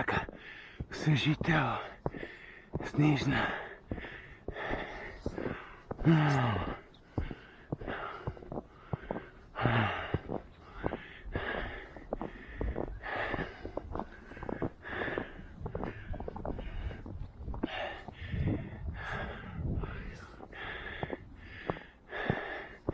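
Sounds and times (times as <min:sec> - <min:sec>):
footsteps crunching in snow: 0:00.0 - 0:22.9
runner panting heavily: 0:00.2 - 0:22.9.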